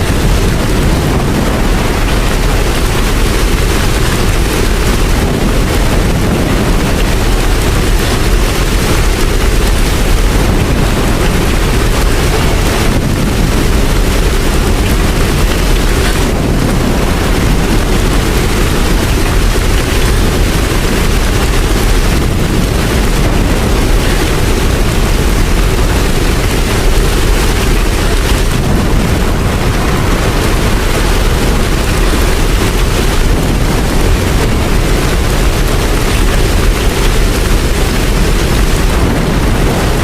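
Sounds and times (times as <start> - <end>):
deep rumble: 0.0 - 40.0
steady rain: 0.0 - 40.0.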